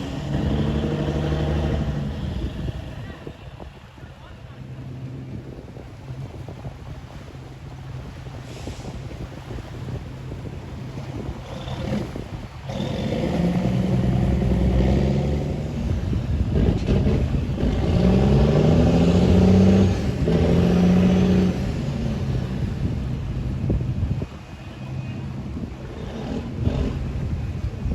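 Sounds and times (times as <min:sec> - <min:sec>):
tugboat diesel engine running: 0:00.0 - 0:27.9.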